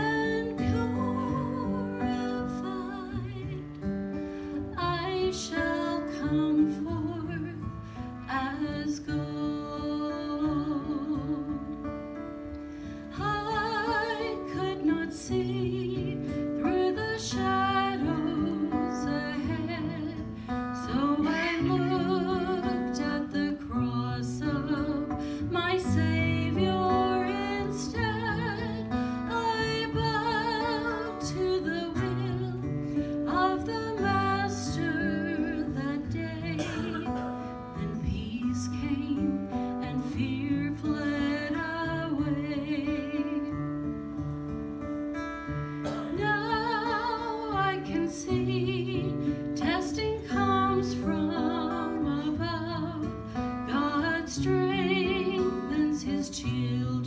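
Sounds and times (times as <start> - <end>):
woman singing with vibrato: 0.0 - 3.8, 4.7 - 11.8, 13.1 - 43.7, 45.8 - 57.0.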